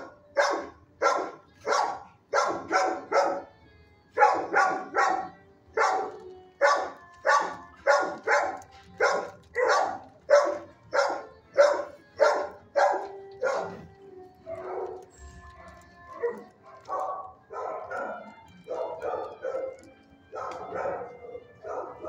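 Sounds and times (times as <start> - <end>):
dog barking: 0.0 - 3.5, 4.1 - 22.0.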